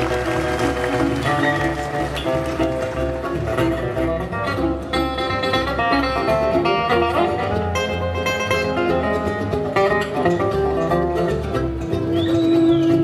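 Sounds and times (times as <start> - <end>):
country music with plucked strings: 0.0 - 13.0.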